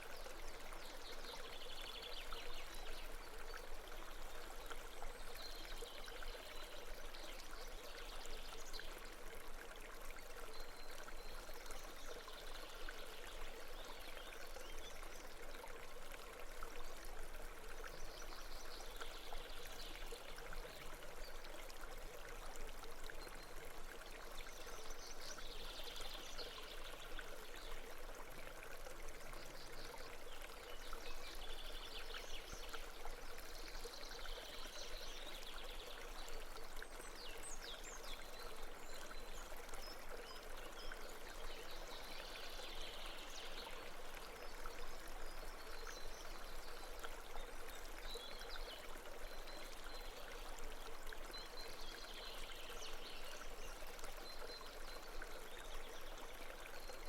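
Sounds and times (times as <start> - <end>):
babbling brook: 0.0 - 57.0.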